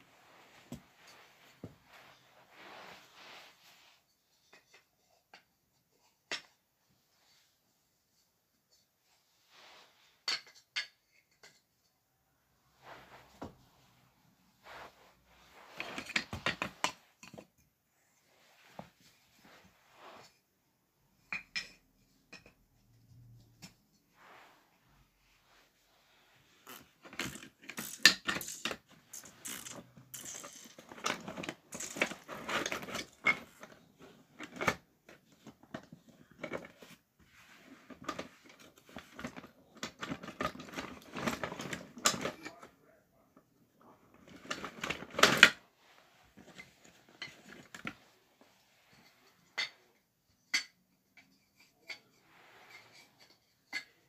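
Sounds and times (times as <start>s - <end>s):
toys clattering and rustling: 0.0s - 7.4s, 8.1s - 12.0s, 12.7s - 20.5s, 21.1s - 24.2s, 26.4s - 54.0s.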